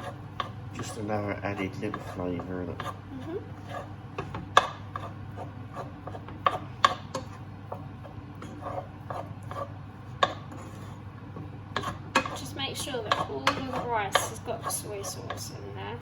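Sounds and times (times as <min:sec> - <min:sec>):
utensil scraping frying pan: 0:00.0 - 0:16.0.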